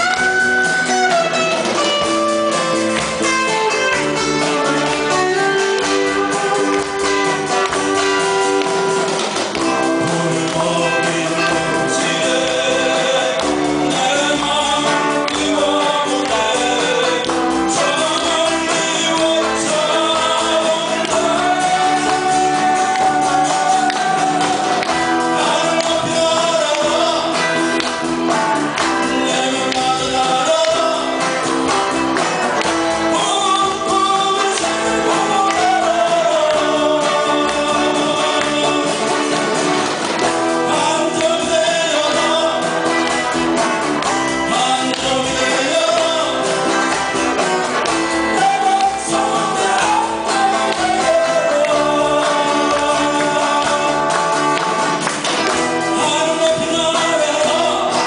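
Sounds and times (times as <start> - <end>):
lead singer's voice: 0.0 - 58.0
live band playing pop: 0.0 - 58.0.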